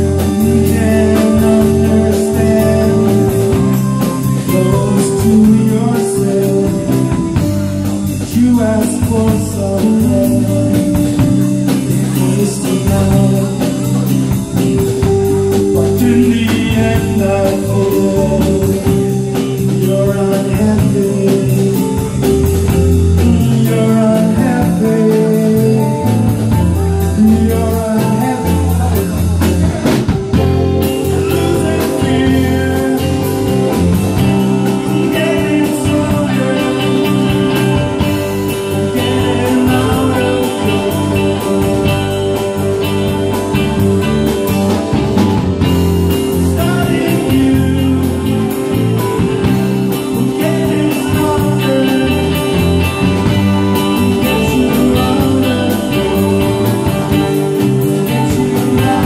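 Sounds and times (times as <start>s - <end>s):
bass: 0.0s - 59.0s
drum kit beat: 0.0s - 59.0s
electric guitars: 0.0s - 59.0s
keyboard: 0.0s - 59.0s
person singing: 0.0s - 59.0s.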